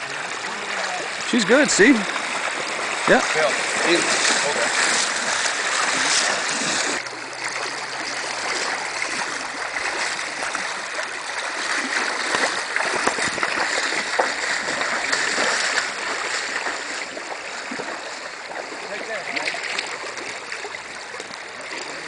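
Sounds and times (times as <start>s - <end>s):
river water rushing: 0.0s - 22.0s
small splashes: 0.0s - 22.0s.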